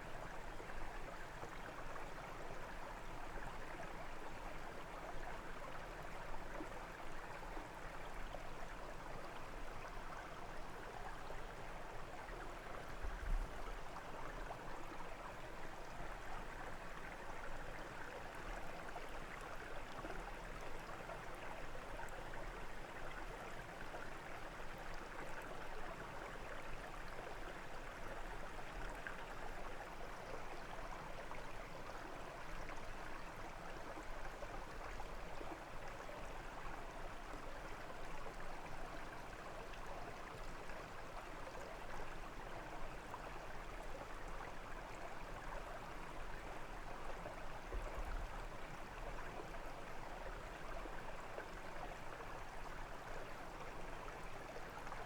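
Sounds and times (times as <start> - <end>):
brook water running: 0.0 - 55.0.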